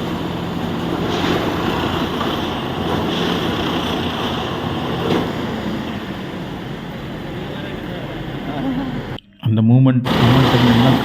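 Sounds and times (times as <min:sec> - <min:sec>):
low engine hum: 0:00.0 - 0:09.2
tamping machine mechanical din: 0:00.0 - 0:09.2, 0:10.0 - 0:11.0.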